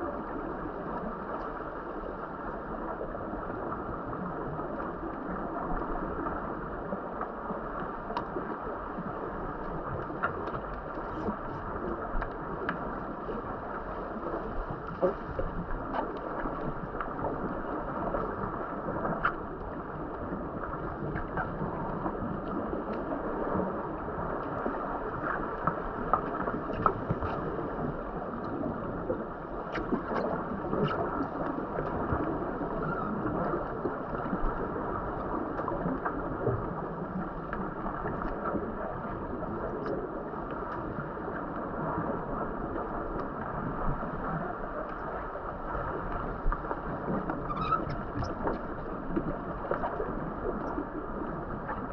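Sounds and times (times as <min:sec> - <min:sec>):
underwater rush of water and bubbles: 0:00.0 - 0:51.9
small underwater clicks and knocks: 0:03.4 - 0:51.9.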